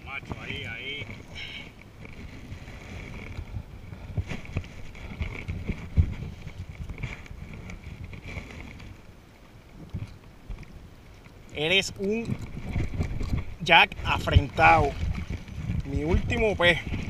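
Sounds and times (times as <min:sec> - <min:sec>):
water sloshing: 0:00.0 - 0:17.0
wind on microphone: 0:00.0 - 0:17.0.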